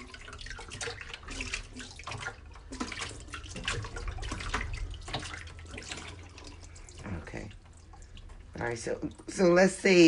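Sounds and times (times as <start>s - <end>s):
water splashing in a sink: 0.0s - 10.0s.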